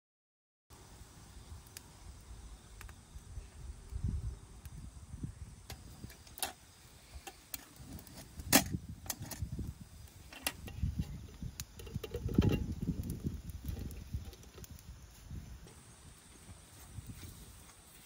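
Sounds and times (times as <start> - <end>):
wood fire crackling and popping: 1.4 - 18.0.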